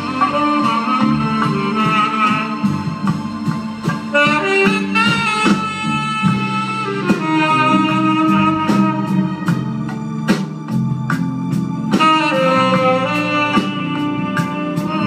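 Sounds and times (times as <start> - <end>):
drum and cymbal hits: 0.0 - 15.0
latin jazz band playing: 0.0 - 15.0.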